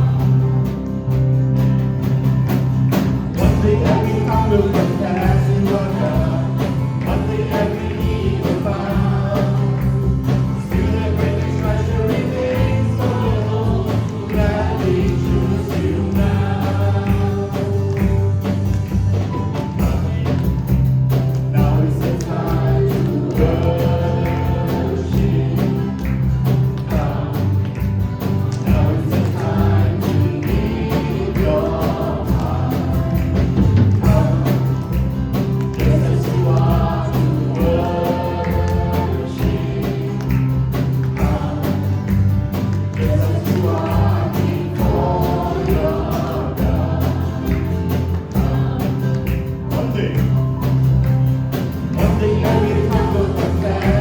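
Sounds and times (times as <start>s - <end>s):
choir singing worship song: 0.0s - 54.0s
live band playing: 0.0s - 54.0s.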